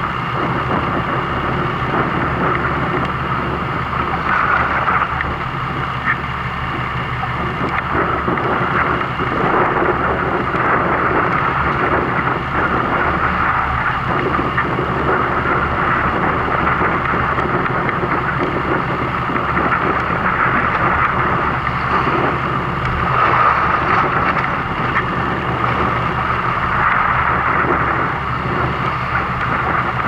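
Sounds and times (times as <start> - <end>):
boat engine humming: 0.0 - 30.0
wind and water rushing: 0.0 - 30.0.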